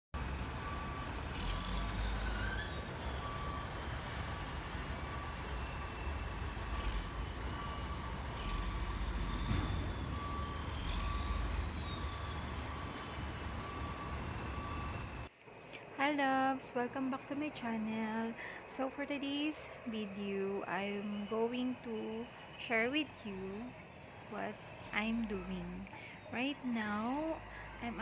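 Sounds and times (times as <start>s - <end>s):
diesel engine rumble: 0.1s - 28.0s
reversing alarm beeping: 0.2s - 15.3s, 16.8s - 28.0s.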